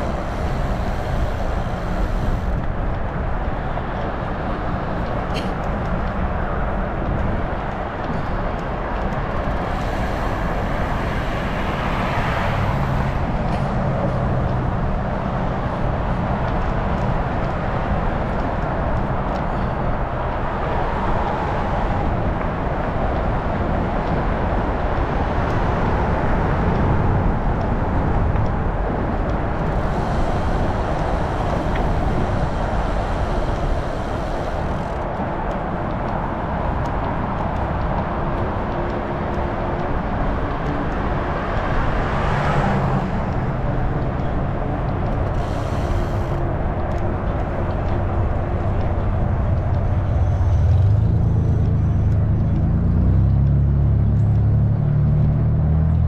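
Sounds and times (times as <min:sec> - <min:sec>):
wind on microphone: 0:00.0 - 0:50.6
bicycle road noise: 0:00.0 - 0:56.0
motor vehicles passing: 0:00.0 - 0:56.0.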